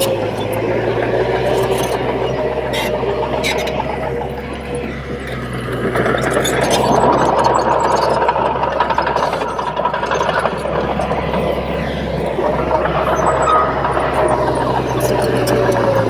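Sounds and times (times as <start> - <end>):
bulldozer diesel engine clattering: 0.0 - 16.0
low wavering squeal: 0.0 - 16.0.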